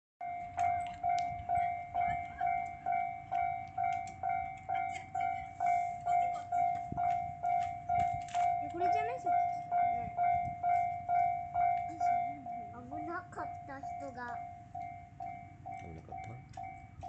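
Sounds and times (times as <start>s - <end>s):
level crossing warning bell ringing: 0.2s - 17.0s.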